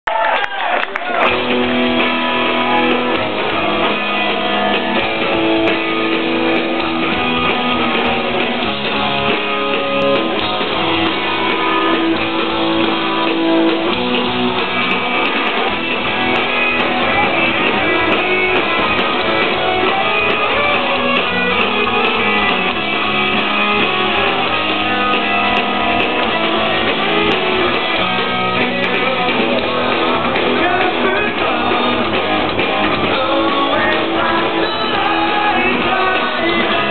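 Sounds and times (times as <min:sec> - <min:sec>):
punk rock band playing loudly: 0:01.0 - 0:36.9.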